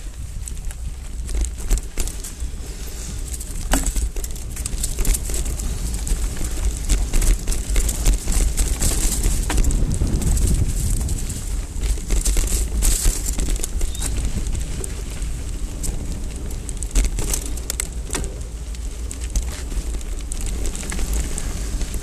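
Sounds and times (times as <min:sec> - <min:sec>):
bike clicks and knocks: 0:00.0 - 0:22.0
mountain bike rattling: 0:00.0 - 0:22.0
tyres on dirt: 0:00.0 - 0:22.0
wind rumble on microphone: 0:00.0 - 0:22.0.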